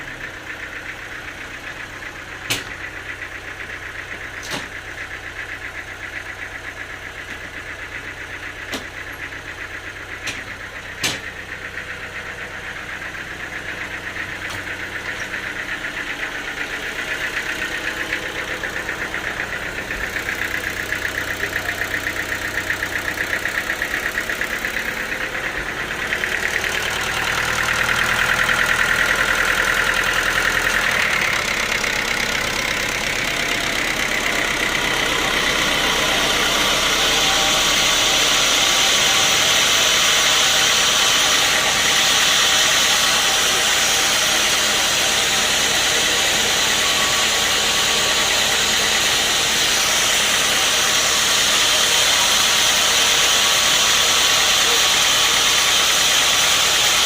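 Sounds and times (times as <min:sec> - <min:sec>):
sawmill machinery knocking: 0:00.0 - 0:57.0.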